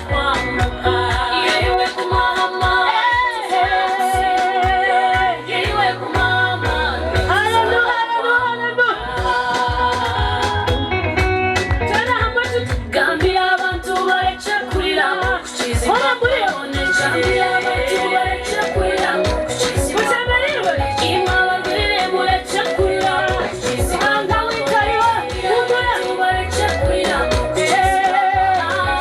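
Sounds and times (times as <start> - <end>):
pop backing track with drums: 0.0 - 8.0, 9.0 - 29.0
person singing with vibrato: 0.0 - 11.2, 11.9 - 29.0.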